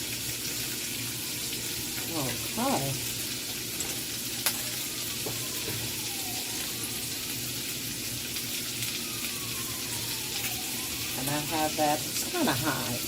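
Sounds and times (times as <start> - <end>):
sausages sizzling in a pan: 0.0 - 13.0.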